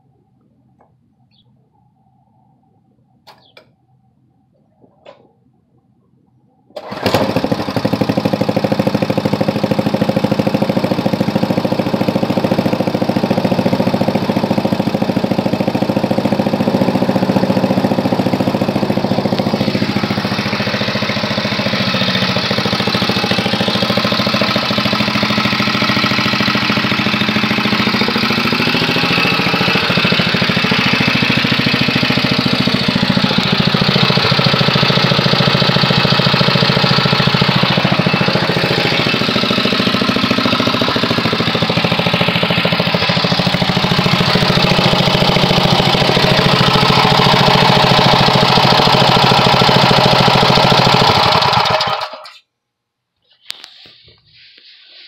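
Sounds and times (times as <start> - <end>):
small engine running: 6.8 - 52.4.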